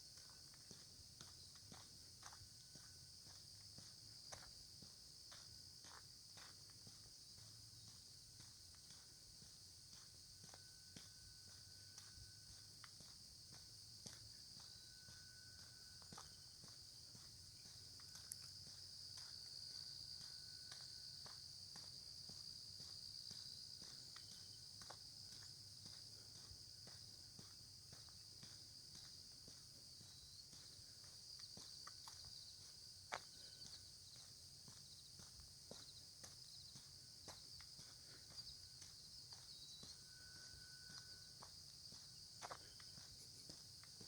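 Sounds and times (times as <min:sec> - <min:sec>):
soft footsteps: 0:00.0 - 0:44.0
high-pitched insect chorus: 0:00.1 - 0:44.0.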